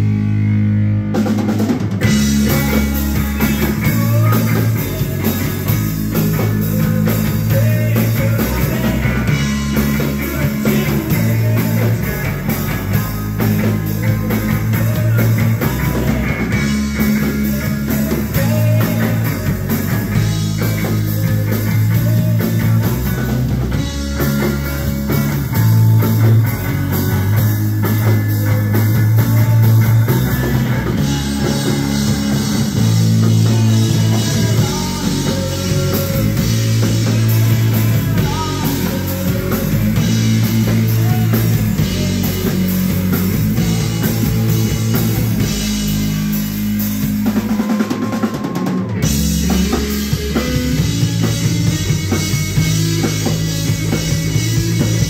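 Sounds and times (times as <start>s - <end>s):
bass guitar: 0.0s - 55.0s
distorted electric guitar: 0.0s - 55.0s
drum kit: 0.0s - 55.0s.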